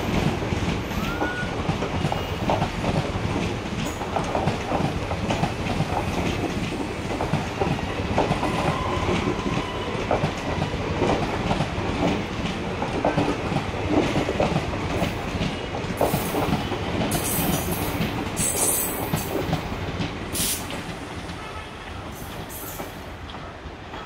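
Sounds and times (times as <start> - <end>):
train wheels clattering over rail joints: 0.0 - 21.5
train rumble: 0.0 - 24.0.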